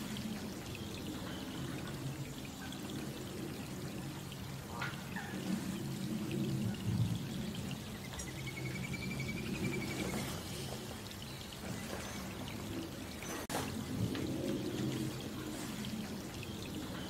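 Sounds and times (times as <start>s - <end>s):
rain falling on a pond: 0.0s - 17.0s.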